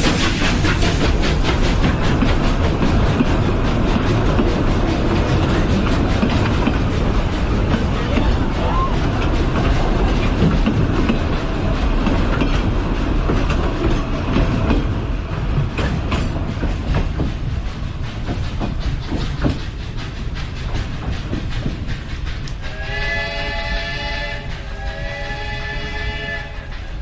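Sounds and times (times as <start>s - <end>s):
train cars rolling past: 0.0s - 27.0s.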